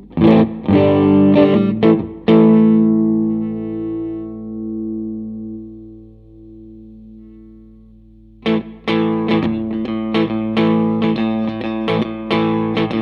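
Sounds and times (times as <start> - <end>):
electric guitar chords: 0.0 - 13.0.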